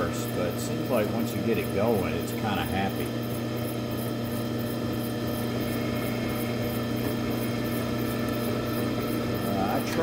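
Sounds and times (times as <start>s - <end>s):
drill press motor humming: 0.0s - 10.0s.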